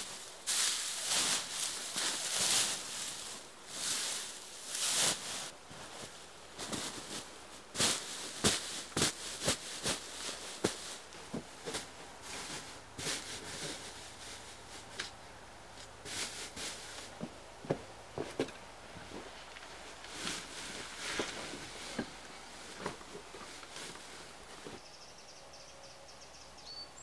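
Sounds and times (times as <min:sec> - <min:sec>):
dry hay rustling and crackling: 0:00.0 - 0:24.8.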